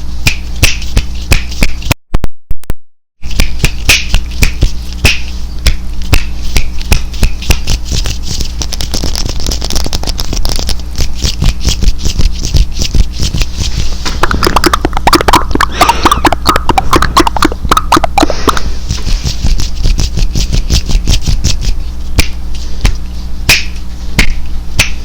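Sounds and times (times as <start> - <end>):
low hum: 3.2 - 25.0
hands rubbing hiss: 3.3 - 24.2
sharp clicks and snaps: 3.3 - 25.0.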